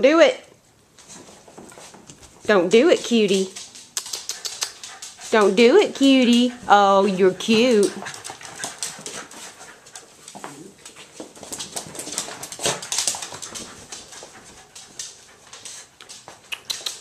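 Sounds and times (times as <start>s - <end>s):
dog playing with plush toy: 0.9s - 17.0s.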